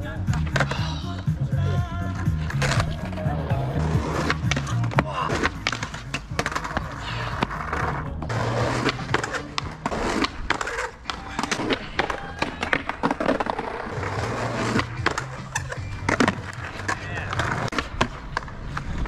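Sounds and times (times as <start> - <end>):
music: 0.0 - 19.0
skateboard wheels rolling on asphalt: 2.1 - 19.0
skateboard clacking on ledge: 2.4 - 8.0, 8.6 - 19.0.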